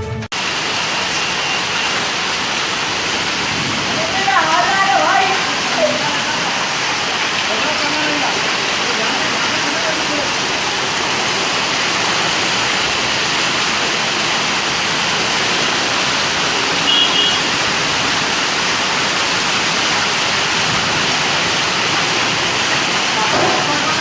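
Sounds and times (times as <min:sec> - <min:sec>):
heavy rain pouring: 0:00.3 - 0:24.0.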